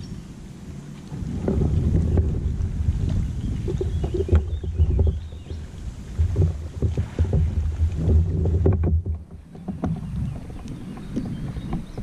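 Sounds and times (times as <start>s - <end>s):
water slapping kayak hull: 0.0s - 12.0s
wind gusting on microphone: 0.0s - 12.0s.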